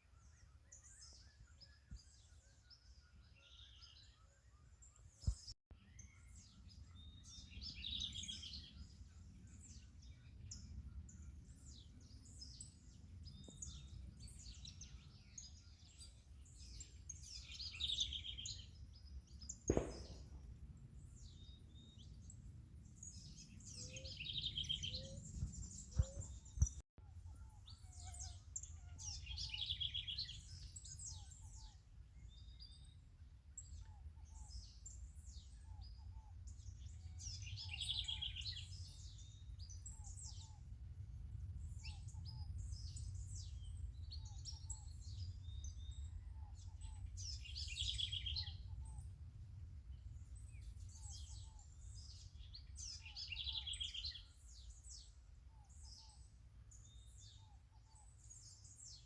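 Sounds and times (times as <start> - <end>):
birds singing: 0.1 - 20.4, 21.0 - 40.7, 41.6 - 49.2, 49.9 - 59.0.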